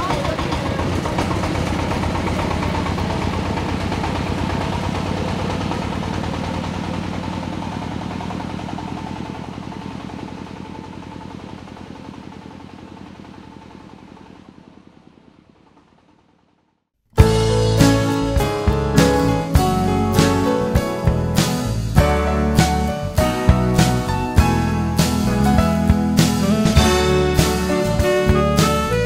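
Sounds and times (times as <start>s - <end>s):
truck engine chugging: 0.0s - 16.6s, 17.2s - 29.0s.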